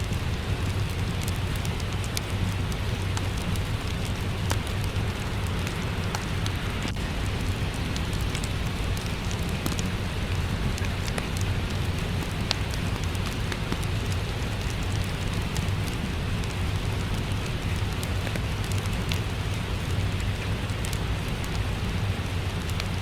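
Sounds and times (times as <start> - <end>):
fireplace crackling: 0.0 - 23.0
steady rain: 0.0 - 23.0.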